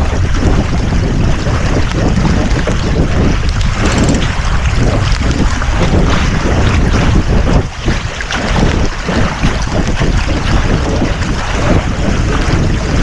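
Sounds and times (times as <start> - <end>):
waves and water: 0.0 - 13.0
wind buffeting microphone: 0.0 - 13.0.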